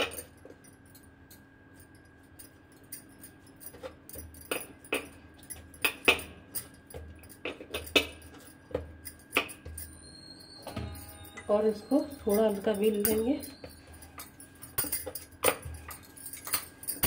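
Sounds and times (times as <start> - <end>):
glass bangles clinking: 0.0 - 17.0.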